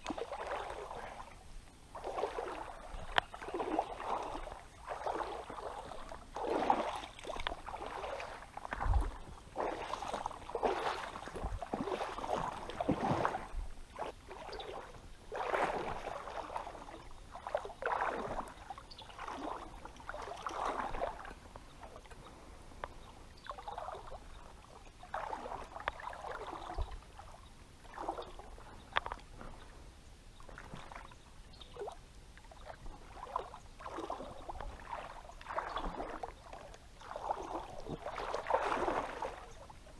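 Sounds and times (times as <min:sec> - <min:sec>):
wading through water splashes: 0:00.0 - 0:39.9.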